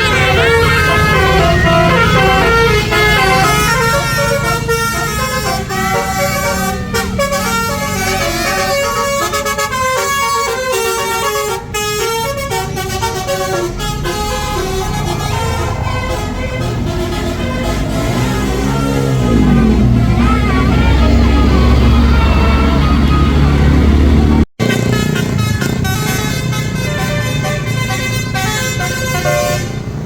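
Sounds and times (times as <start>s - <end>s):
bus engine rumble: 0.0s - 30.0s
musical bus horn melody: 0.0s - 30.0s.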